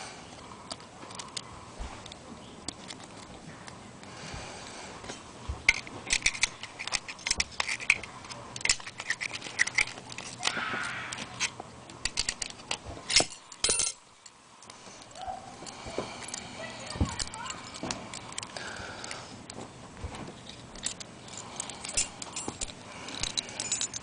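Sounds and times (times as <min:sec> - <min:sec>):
metallic clicks of padlock parts: 0:00.3 - 0:03.4, 0:05.7 - 0:19.6, 0:20.4 - 0:24.0.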